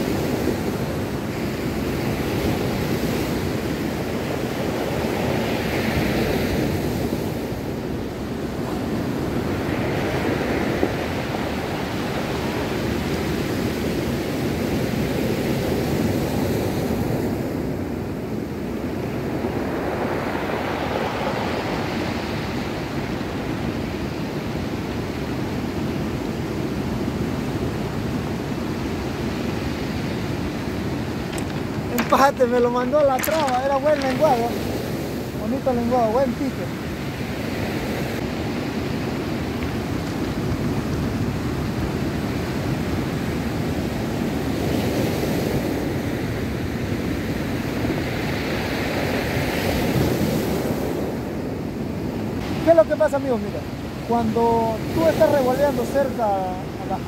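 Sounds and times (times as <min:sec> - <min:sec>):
waves washing on pebble beach: 0:00.0 - 0:57.0.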